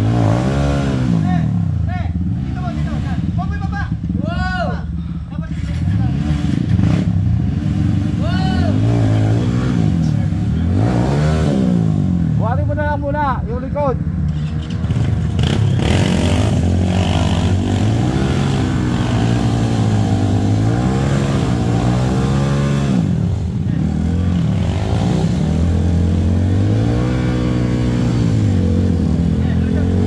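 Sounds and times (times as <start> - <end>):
motorbike engine revving: 0.0 - 4.3, 5.4 - 12.6, 14.3 - 30.0.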